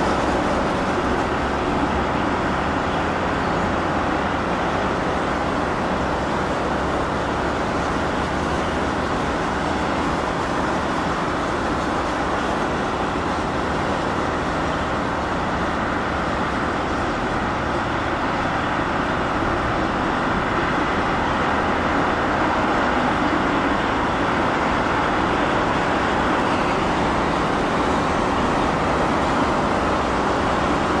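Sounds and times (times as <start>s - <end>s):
distant outdoor roar: 0.0s - 31.0s.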